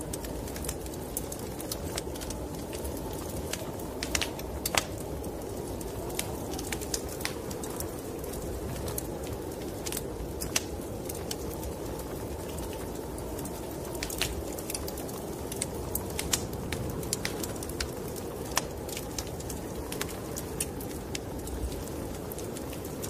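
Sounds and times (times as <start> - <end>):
snowstorm wind rushing: 0.0 - 23.0
wood fire crackling: 0.0 - 23.0.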